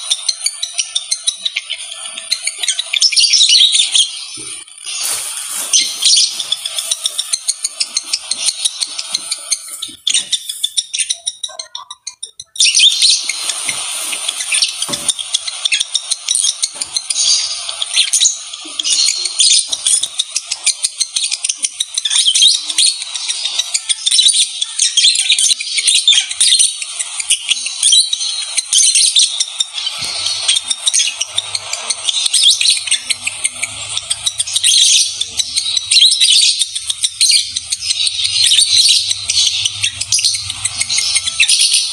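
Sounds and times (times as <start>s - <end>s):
lovebirds chattering: 0.0s - 41.9s.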